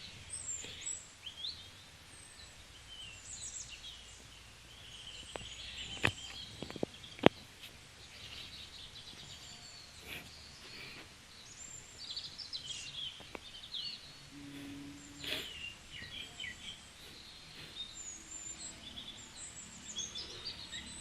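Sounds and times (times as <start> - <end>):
birds chirping and calling: 0.0 - 21.0
outdoor background noise: 0.0 - 21.0.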